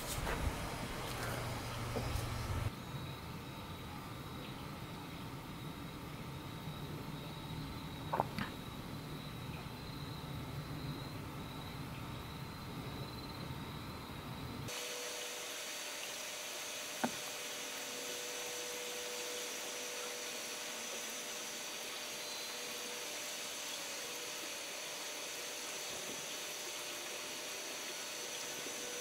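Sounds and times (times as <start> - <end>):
faint high whining tones: 0.0 - 29.0
steady whirring hiss: 0.0 - 29.0.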